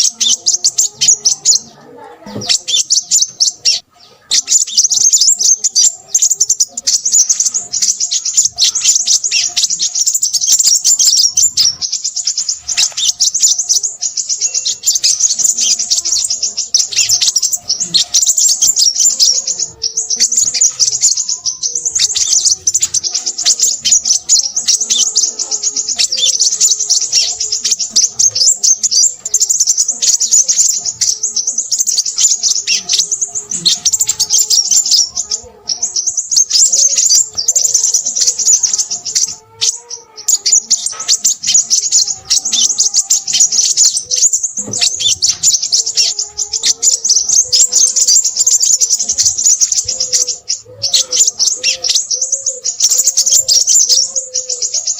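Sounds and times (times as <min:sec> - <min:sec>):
bird twittering loudly: 0:00.0 - 0:54.9
fainter lower bird calls: 0:00.0 - 0:54.9.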